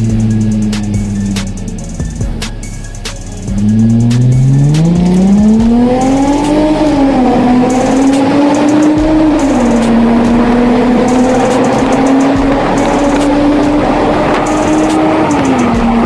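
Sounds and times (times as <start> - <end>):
car exhaust under acceleration: 0.0 - 16.0.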